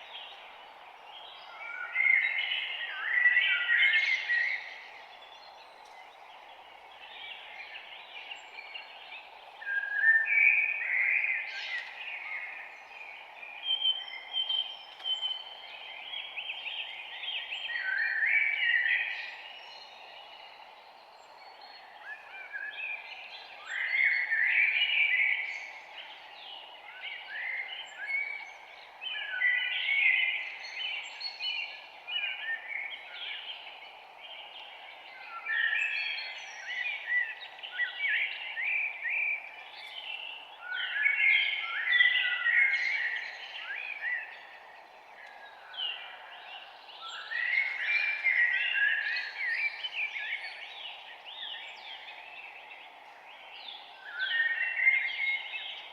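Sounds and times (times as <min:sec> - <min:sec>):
birds singing and chirping: 0:00.0 - 0:55.9
steady background hiss: 0:00.0 - 0:55.9.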